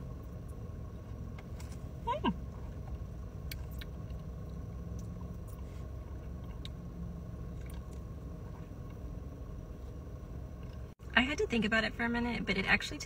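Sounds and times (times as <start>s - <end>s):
car interior hum: 0.0s - 13.0s.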